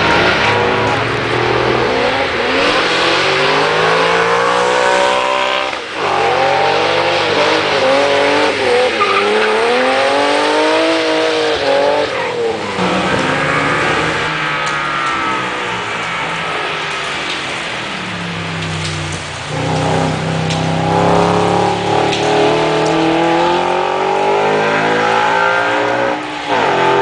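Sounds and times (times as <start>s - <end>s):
car engines revving: 0.0s - 27.0s
tyres skidding on wet track: 0.0s - 27.0s.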